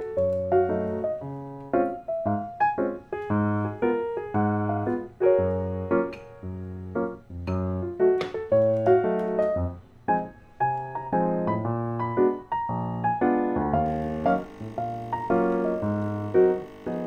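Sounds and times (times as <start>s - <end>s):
gentle piano keyboard tune: 0.0s - 17.0s.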